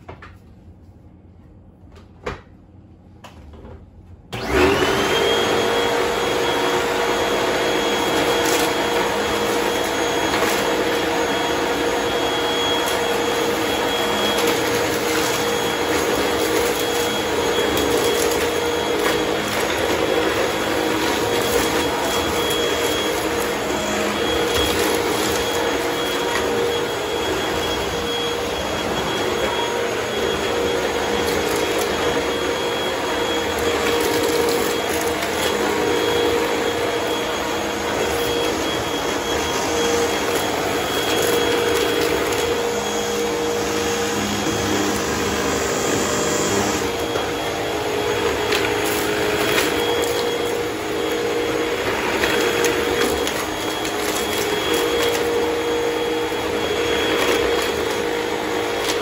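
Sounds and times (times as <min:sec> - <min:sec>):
vacuum cleaner motor running: 0:04.3 - 0:59.0.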